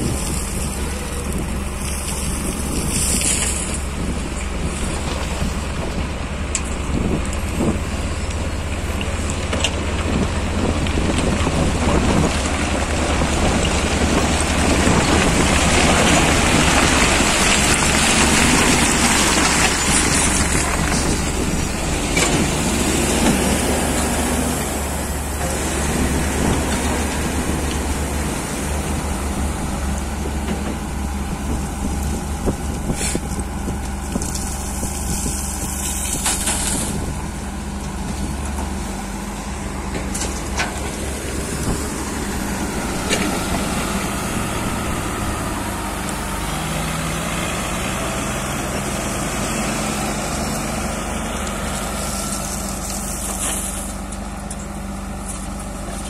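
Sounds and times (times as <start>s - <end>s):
backhoe loader working: 0.0s - 56.0s
motor grader diesel engine: 0.0s - 56.0s.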